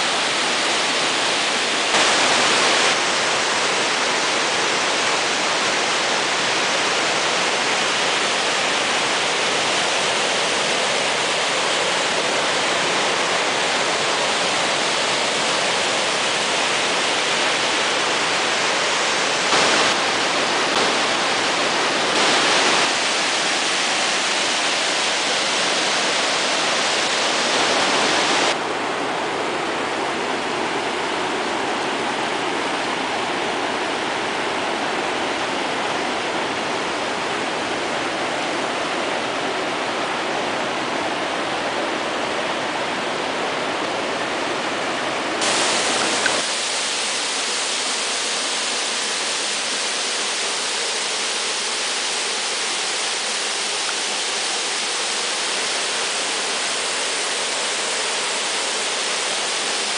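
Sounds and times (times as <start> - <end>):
river running over rocks: 0.0 - 59.9
waterfall rushing: 0.0 - 59.9.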